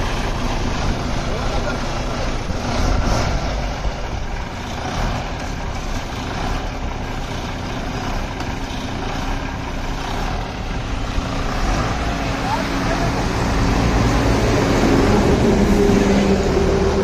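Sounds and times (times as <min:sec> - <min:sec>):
road noise: 0:00.0 - 0:17.0
truck engine droning: 0:00.0 - 0:17.0.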